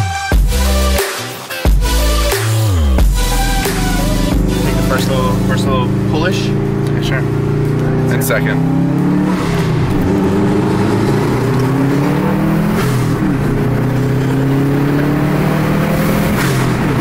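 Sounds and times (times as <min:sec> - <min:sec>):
turbocharged car engine revving: 0:01.8 - 0:17.0.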